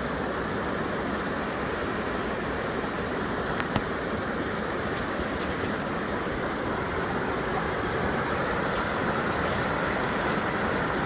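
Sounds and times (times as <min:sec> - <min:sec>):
fast stream over small waterfalls: 0:00.0 - 0:11.0.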